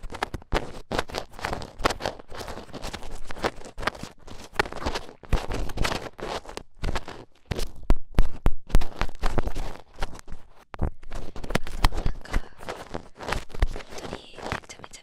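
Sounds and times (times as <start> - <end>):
ear pick scratching and rubbing: 0.0 - 15.0.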